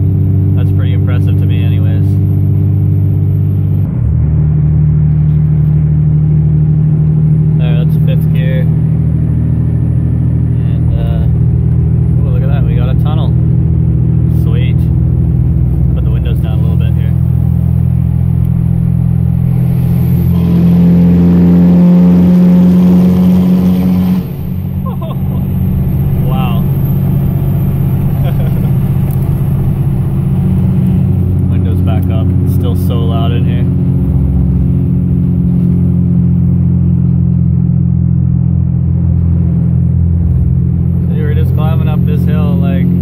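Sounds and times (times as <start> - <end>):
diesel truck engine cruising: 0.0 - 43.0
road noise: 0.0 - 43.0.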